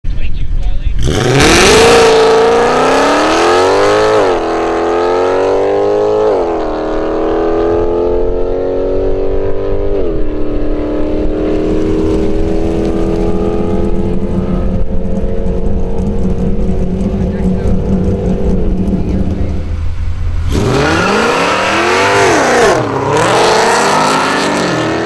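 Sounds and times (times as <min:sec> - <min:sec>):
car engine accelerating hard: 0:00.8 - 0:25.0.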